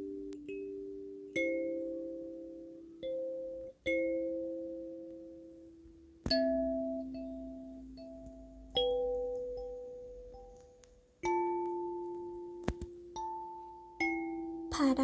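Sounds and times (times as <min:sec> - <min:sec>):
kalimba slow melody: 0:00.0 - 0:14.7.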